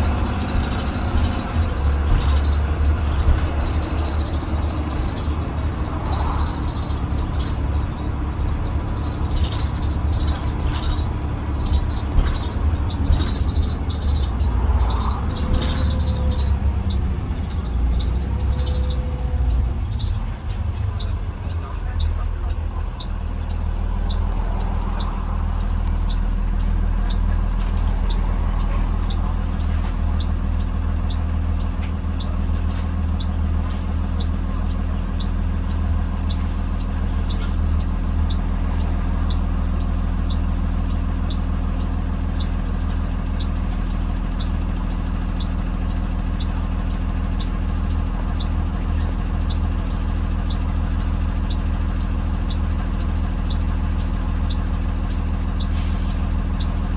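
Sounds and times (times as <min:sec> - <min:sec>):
bus engine drone: 0:00.0 - 0:56.9
light even ticking: 0:00.0 - 0:56.9.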